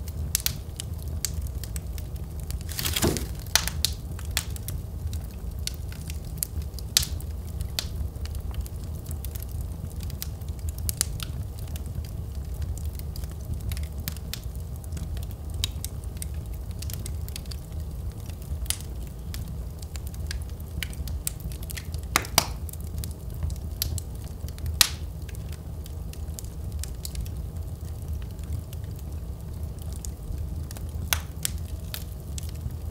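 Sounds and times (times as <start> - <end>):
fire crackles and pops: 0.0 - 32.9
low rumble of flames: 0.0 - 32.9.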